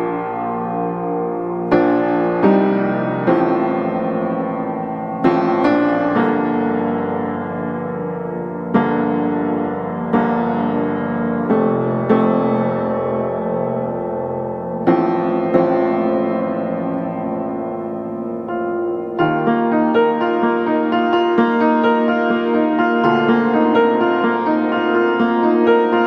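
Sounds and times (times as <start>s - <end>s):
slow soft piano chords: 0.0s - 26.0s.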